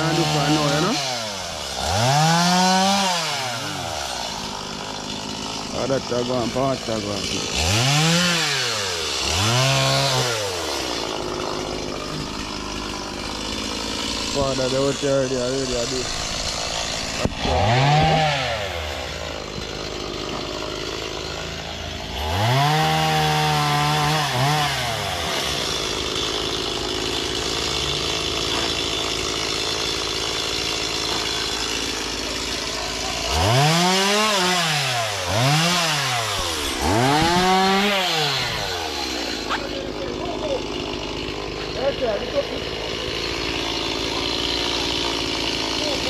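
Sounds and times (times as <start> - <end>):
chainsaw engine revving: 0.0 - 46.0.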